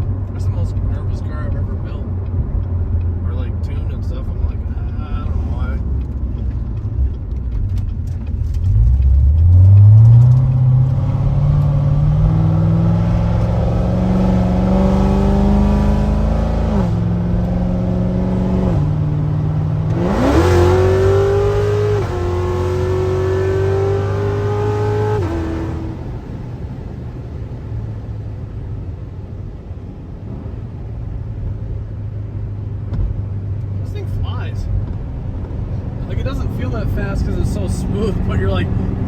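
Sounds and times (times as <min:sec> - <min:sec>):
car engine accelerating hard: 0:00.0 - 0:39.0.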